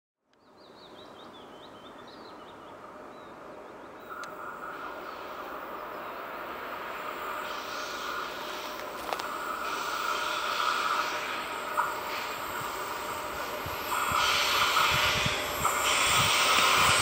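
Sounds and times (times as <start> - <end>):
birds chirping: 0.4 - 17.0
electric train approaching: 2.2 - 17.0.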